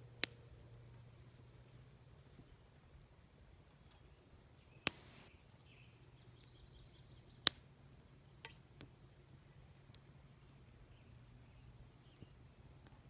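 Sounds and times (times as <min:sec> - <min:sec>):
campfire wood popping: 0:00.0 - 0:10.6.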